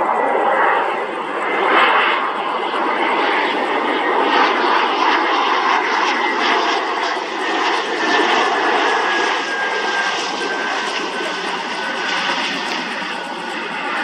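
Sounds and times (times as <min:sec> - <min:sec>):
jet engines rushing and whining: 0:00.0 - 0:14.0.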